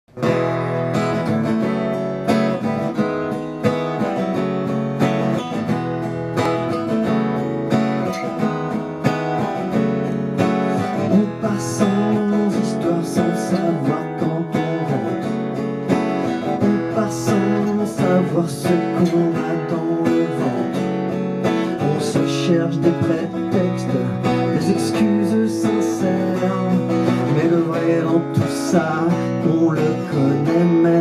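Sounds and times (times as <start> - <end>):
acoustic guitar strumming: 0.1 - 31.0.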